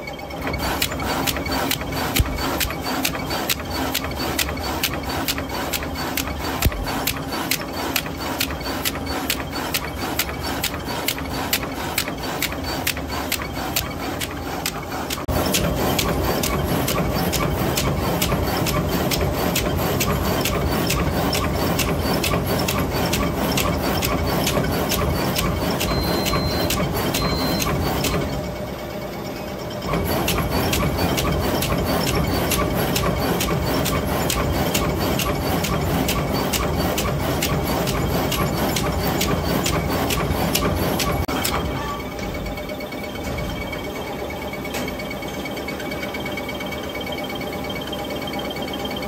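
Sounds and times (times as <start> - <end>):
wire processing machine clacking: 0.0 - 49.0.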